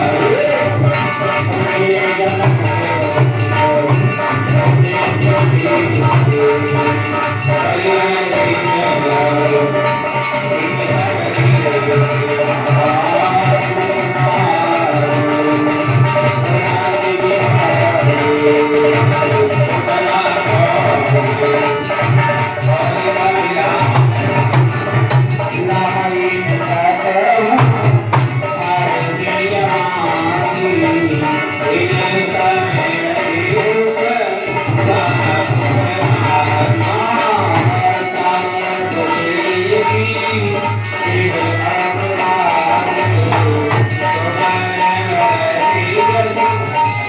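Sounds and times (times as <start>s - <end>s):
jingling hand percussion: 0.0s - 47.0s.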